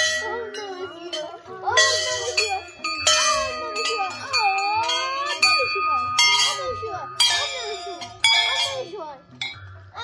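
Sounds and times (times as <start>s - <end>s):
brass bells ringing: 0.0s - 9.6s.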